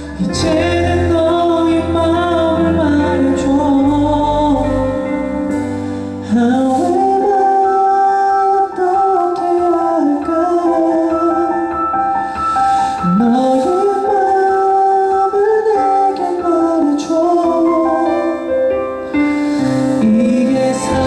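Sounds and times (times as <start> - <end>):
man singing slow ballad: 0.0 - 12.0, 12.7 - 21.0
instrumental accompaniment: 0.0 - 21.0.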